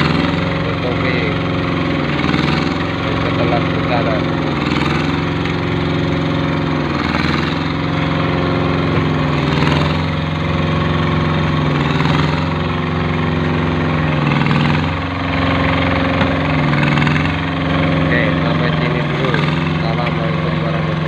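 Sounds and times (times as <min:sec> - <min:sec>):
machine engine with dipping pitch: 0:00.0 - 0:21.0.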